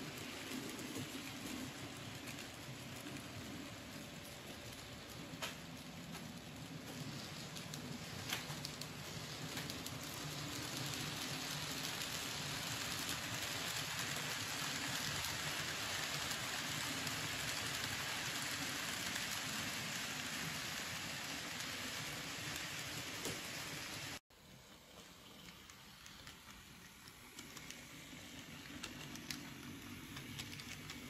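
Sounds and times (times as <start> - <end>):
model train wheels on rails: 0.0 - 31.0.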